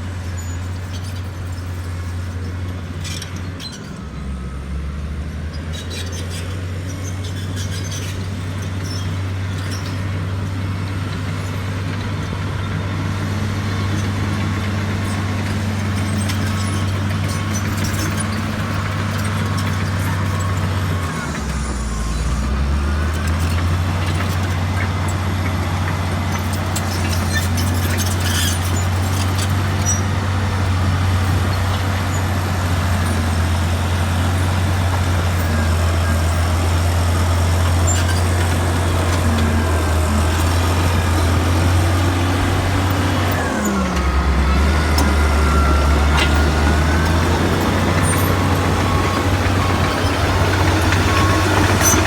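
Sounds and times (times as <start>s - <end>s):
bulldozer diesel engine droning: 0.0s - 52.0s.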